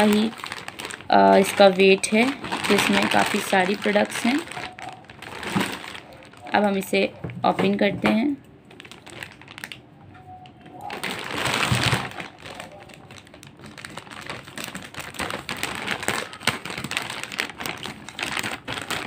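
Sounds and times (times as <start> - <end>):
plastic bag rustling and crinkling: 0.0 - 7.9, 8.7 - 9.8, 10.8 - 19.0.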